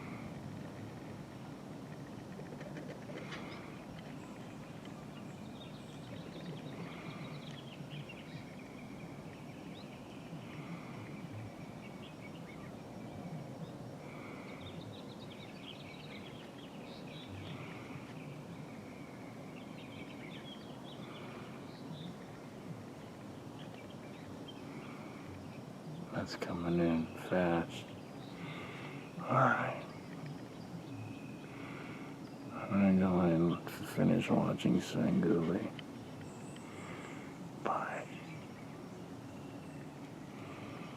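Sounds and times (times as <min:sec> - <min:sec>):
birds chirping: 0:00.0 - 0:40.9
low outdoor background noise: 0:00.0 - 0:40.9.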